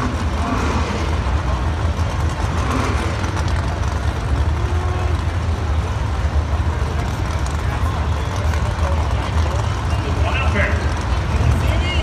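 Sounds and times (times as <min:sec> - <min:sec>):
racing car engines idling: 0:00.0 - 0:12.0.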